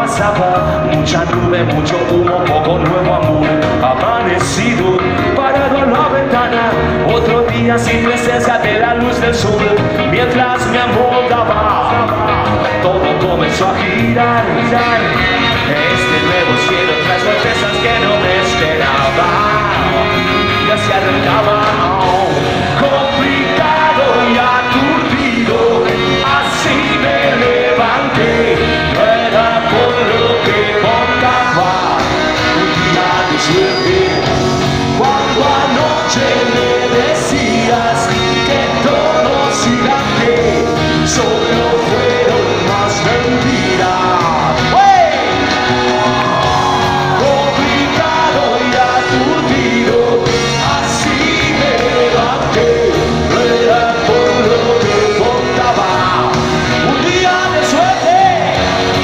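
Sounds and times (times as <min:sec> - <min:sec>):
electric guitar: 0:00.0 - 0:59.0
live rock band: 0:00.0 - 0:59.0.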